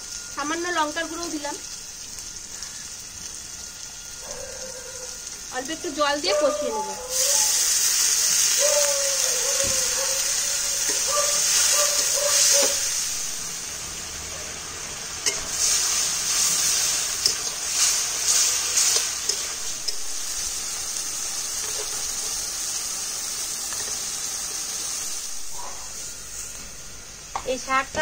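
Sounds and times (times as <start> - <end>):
masala sizzling in a pan: 0.0 - 28.0.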